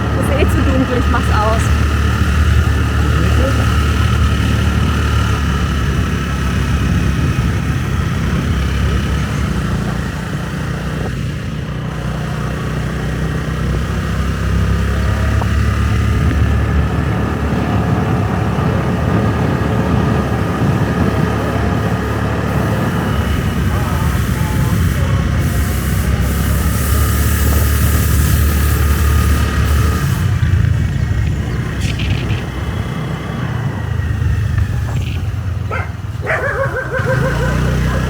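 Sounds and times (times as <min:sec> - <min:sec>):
motorbike engine running: 0:00.0 - 0:38.0
wind rumble on microphone: 0:00.0 - 0:38.0.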